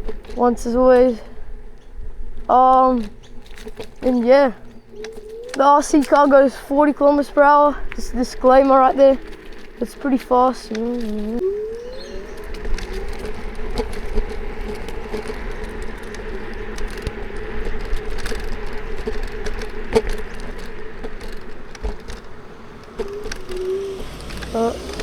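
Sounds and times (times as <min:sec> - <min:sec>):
electric scooter motor whining: 0:00.0 - 0:25.0
rattles and clicks: 0:00.0 - 0:25.0.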